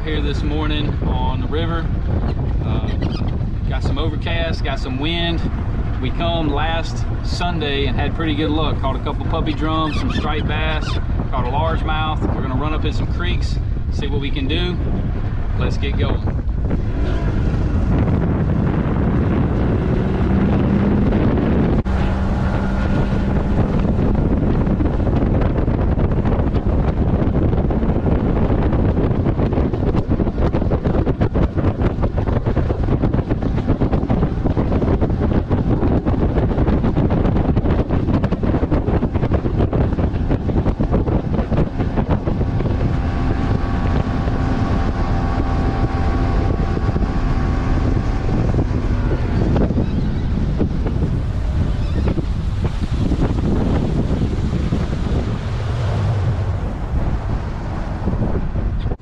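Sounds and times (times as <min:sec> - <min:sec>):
outboard motor running: 0:00.0 - 0:59.0
wind buffeting microphone: 0:00.0 - 0:59.0.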